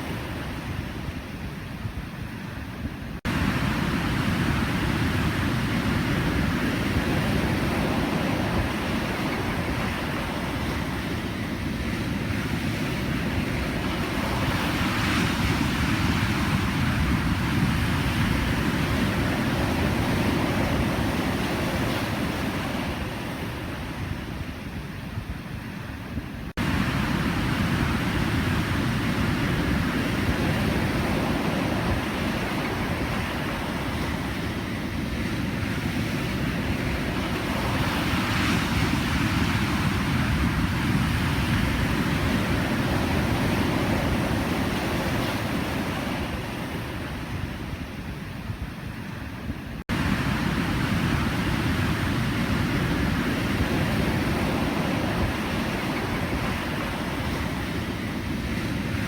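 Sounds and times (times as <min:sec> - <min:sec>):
ocean waves breaking: 0:02.8 - 0:59.0.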